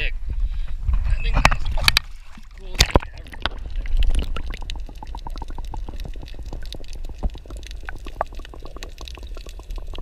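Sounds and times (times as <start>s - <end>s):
muffled underwater rumble: 0.3s - 10.0s
bubbles clicking and crackling: 1.4s - 10.0s.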